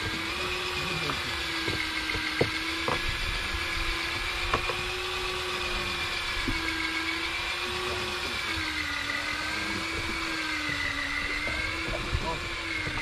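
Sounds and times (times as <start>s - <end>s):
boat motor whining: 0.0s - 13.0s.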